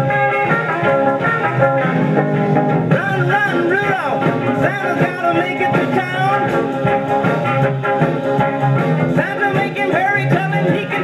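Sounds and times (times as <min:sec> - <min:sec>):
song on record player: 0:00.0 - 0:11.0.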